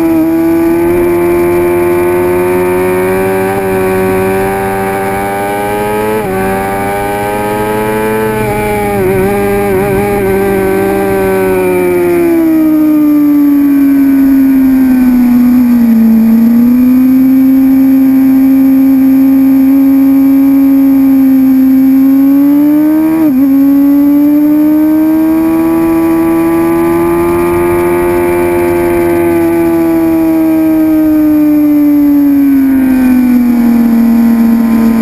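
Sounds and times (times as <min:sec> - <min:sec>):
motorcycle engine at high revs: 0:00.0 - 0:35.0.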